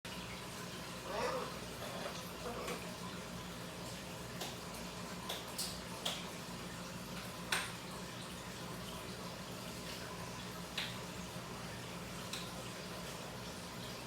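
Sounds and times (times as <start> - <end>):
water trickling: 0.1 - 14.0
dripping ticks: 2.0 - 14.0.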